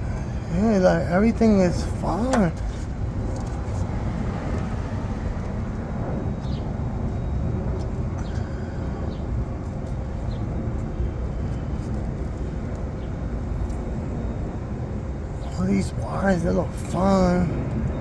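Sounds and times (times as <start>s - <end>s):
low rumbling background noise: 0.0s - 18.0s.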